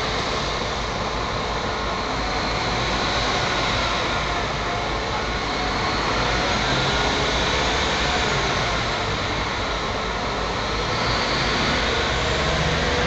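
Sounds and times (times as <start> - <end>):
train rumbling and hissing: 0.0 - 13.0.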